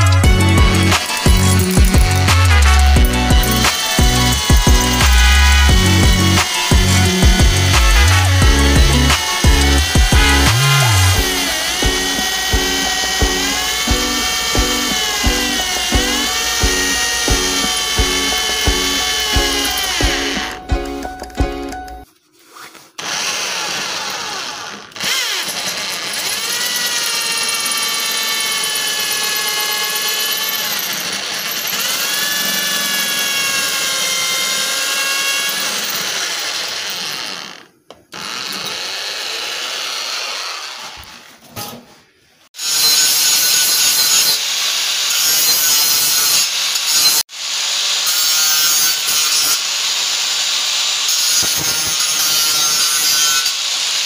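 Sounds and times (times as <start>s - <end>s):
electric drill boring metal: 0.0s - 20.7s, 23.0s - 41.3s, 42.6s - 54.0s
angle grinder cutting metal: 0.0s - 21.3s, 23.0s - 41.3s, 42.6s - 54.0s.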